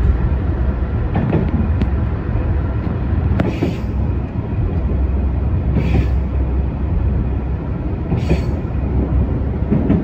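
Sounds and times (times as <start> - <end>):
railcar rumbling on track: 0.0 - 10.0.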